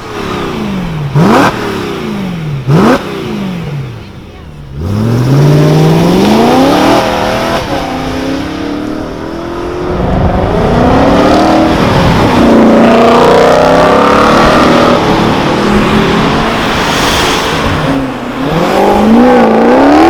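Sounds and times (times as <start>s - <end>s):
sports car engine accelerating: 0.0s - 20.0s.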